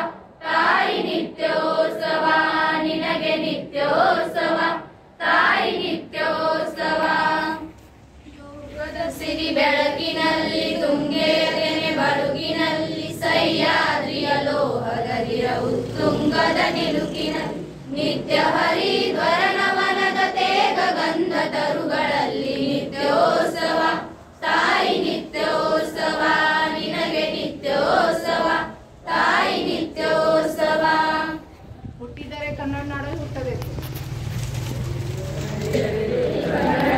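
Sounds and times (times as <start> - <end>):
girls singing in chorus: 0.0 - 31.5, 35.6 - 36.9.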